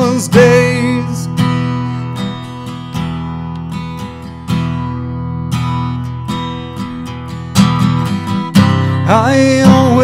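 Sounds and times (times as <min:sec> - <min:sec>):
acoustic guitar strummed slowly: 0:00.0 - 0:10.0.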